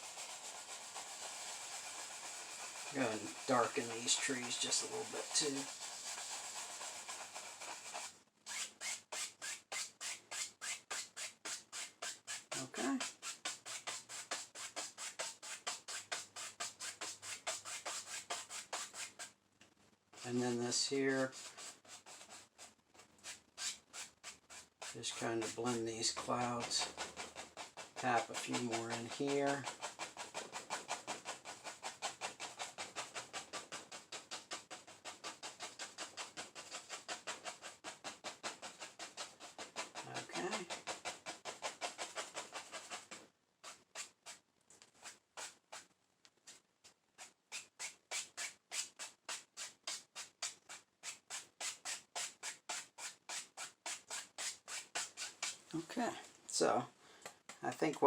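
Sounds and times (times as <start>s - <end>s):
stiff paintbrush scrubbing canvas: 0.0s - 19.3s, 20.2s - 46.6s, 47.2s - 56.7s.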